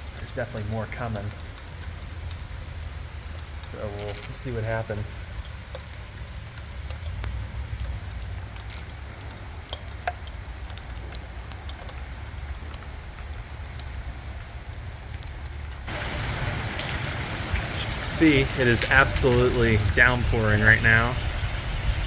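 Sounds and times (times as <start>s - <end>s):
heavy rain: 0.0s - 22.0s
raindrops ticking: 0.0s - 22.0s.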